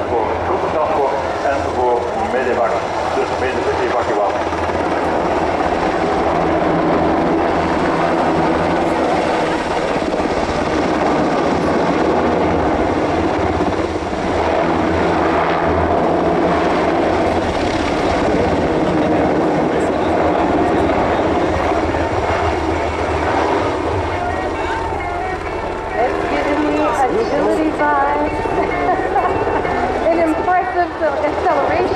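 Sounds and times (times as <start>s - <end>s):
helicopter rotors and engines: 0.0s - 31.9s.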